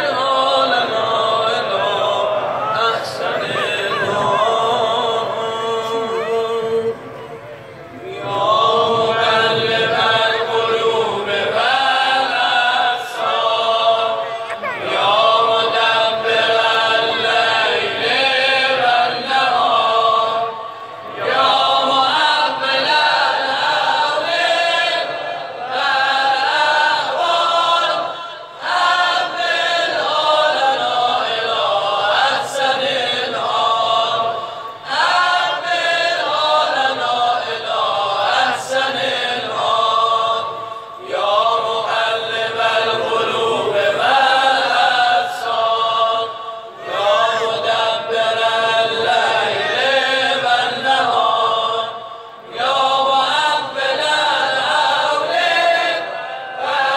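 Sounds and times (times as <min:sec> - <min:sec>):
men chanting together: 0:00.0 - 0:07.0, 0:08.0 - 0:56.9.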